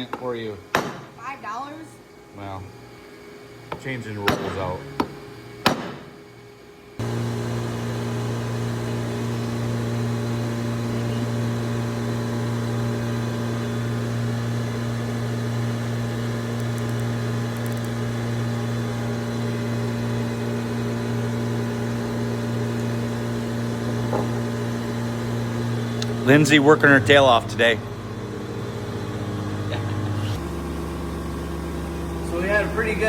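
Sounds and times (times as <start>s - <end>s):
shop machinery humming: 0.0s - 33.0s.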